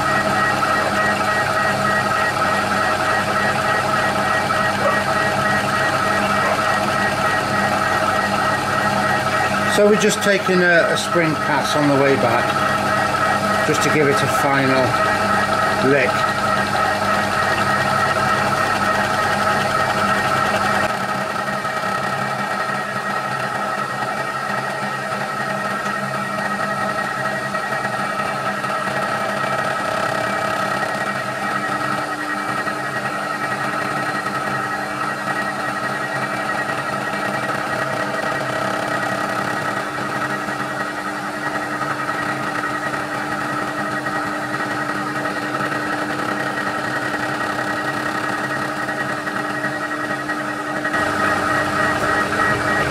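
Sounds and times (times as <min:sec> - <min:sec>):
milling machine whining: 0:00.0 - 0:52.9.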